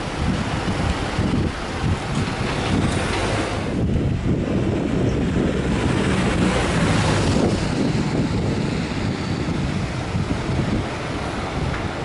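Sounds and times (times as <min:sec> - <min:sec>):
low vehicle rumble: 0:00.0 - 0:12.0
wind buffeting microphone: 0:00.0 - 0:12.0.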